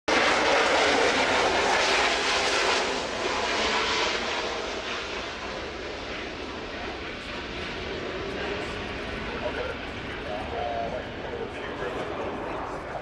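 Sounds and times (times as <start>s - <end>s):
jet engines roaring: 0.1s - 13.0s.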